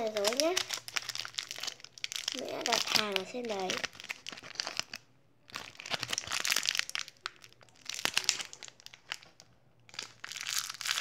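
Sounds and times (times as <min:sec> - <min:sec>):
paper wrapping crinkling: 0:00.0 - 0:11.0.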